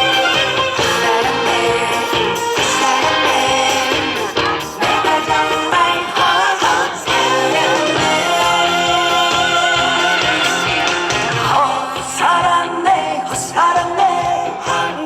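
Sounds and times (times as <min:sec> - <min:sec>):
live band playing trot music: 0:00.0 - 0:15.0
person singing: 0:00.0 - 0:15.0.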